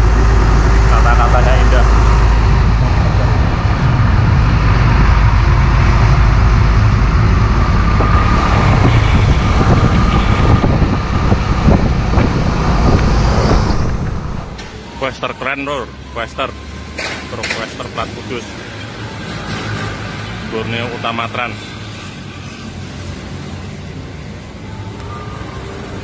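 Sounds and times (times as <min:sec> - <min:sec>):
highway traffic rumble: 0:00.0 - 0:26.0.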